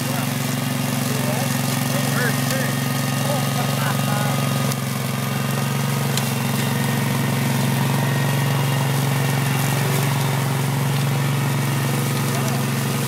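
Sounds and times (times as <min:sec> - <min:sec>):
mower engine running: 0:00.0 - 0:13.0.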